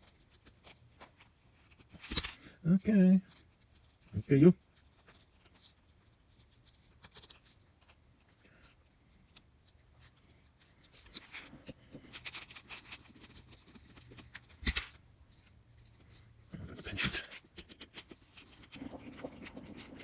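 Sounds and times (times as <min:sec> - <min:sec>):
small parts clicking and rustling: 0:00.0 - 0:04.2, 0:04.8 - 0:20.0.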